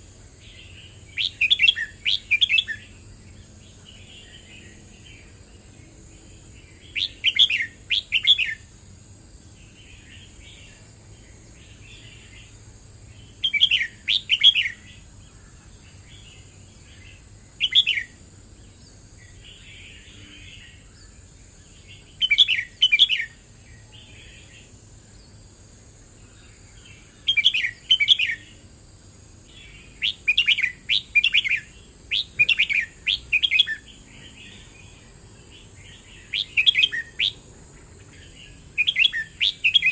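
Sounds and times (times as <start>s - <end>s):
soft bird chirping: 0.0s - 8.8s, 9.4s - 28.7s, 29.4s - 39.9s
bird singing bright phrases: 0.3s - 8.8s, 9.4s - 28.7s, 29.3s - 39.9s.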